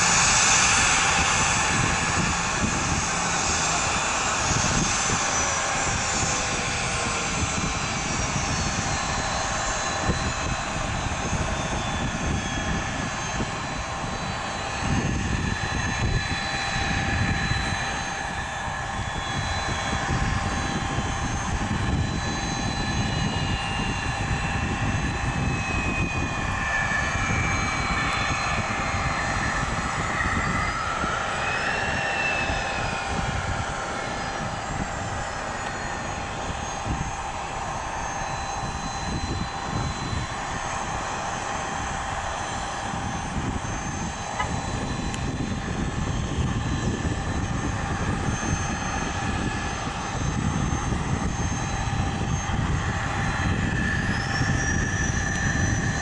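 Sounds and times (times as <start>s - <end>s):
engine rumble: 0.0s - 56.0s
jet engine whine: 0.0s - 56.0s.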